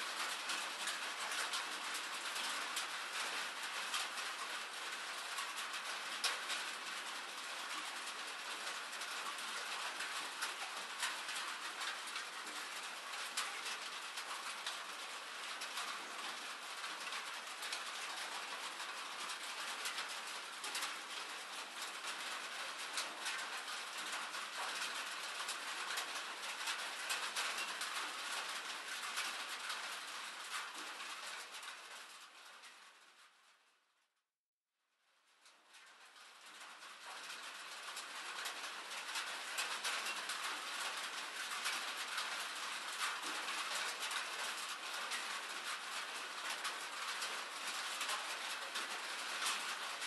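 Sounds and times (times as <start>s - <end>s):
steady rain: 0.0s - 33.9s, 35.1s - 50.0s.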